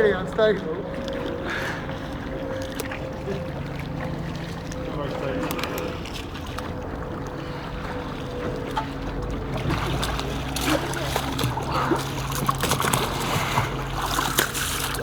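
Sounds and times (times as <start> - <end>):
water splashing around a kayak: 0.0 - 15.0.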